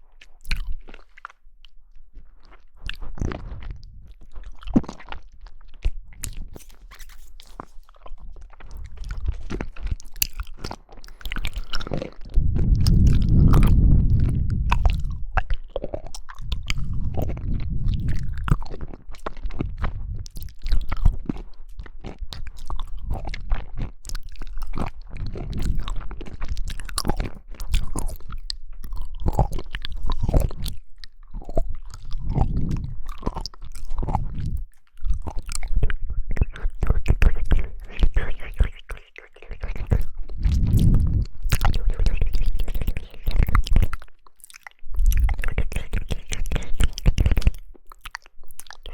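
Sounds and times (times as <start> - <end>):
chewing jelly: 0.0 - 48.9.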